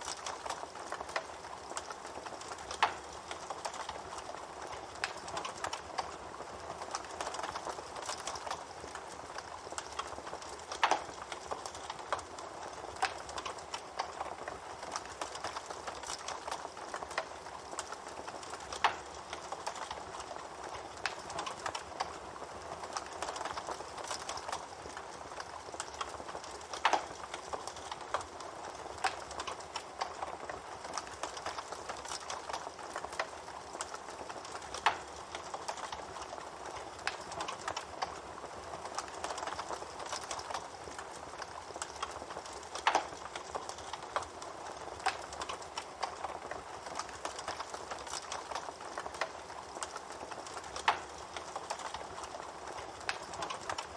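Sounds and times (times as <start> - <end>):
campfire crackling: 0.0 - 53.9
fire popping: 0.0 - 53.9.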